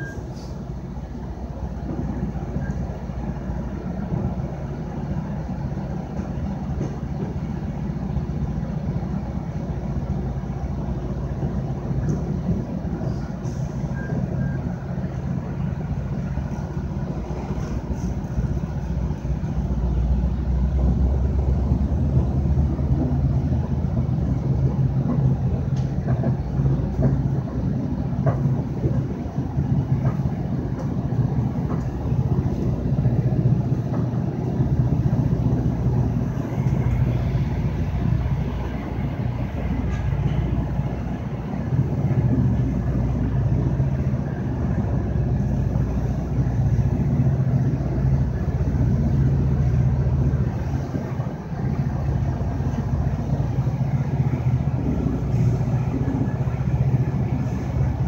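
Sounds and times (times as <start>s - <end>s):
freight train passing: 0.0s - 58.0s
train rumble inside coach: 0.0s - 58.0s.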